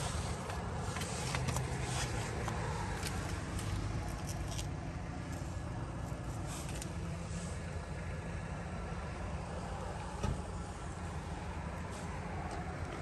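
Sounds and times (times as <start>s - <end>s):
engine idling with low hum: 0.0s - 13.0s.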